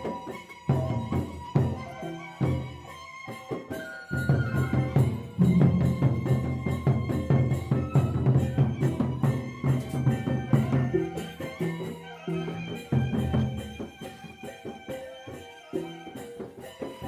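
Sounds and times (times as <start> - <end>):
held melody notes: 0.0 - 14.9
drum and metal percussion ensemble: 0.0 - 17.0.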